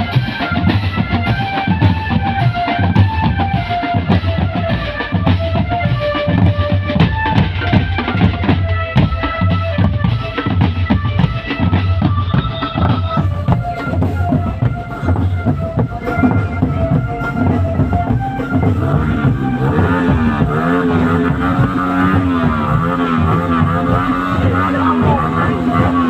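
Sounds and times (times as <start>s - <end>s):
loud music with drum beat: 0.0s - 26.0s.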